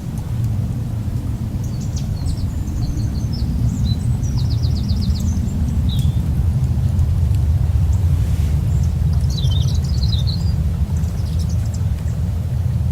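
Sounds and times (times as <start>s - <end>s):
birds chirping: 0.0s - 6.4s, 7.9s - 12.3s
loud steady low rumble: 0.0s - 12.9s.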